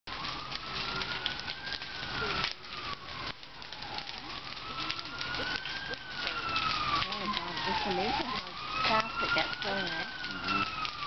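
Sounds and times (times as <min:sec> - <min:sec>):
emergency siren wailing: 0:00.1 - 0:11.0
fire crackling and popping: 0:00.1 - 0:11.0.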